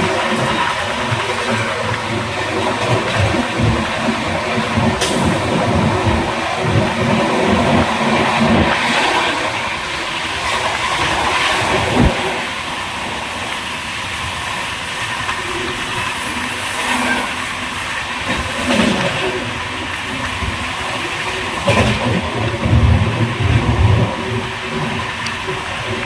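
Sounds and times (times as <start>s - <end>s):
train rumbling and rattling: 0.0s - 26.0s.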